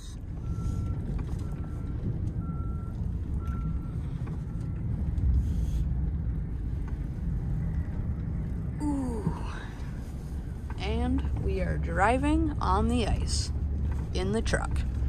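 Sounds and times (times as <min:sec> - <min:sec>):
truck engine and tyres rumbling: 0:00.0 - 0:15.0.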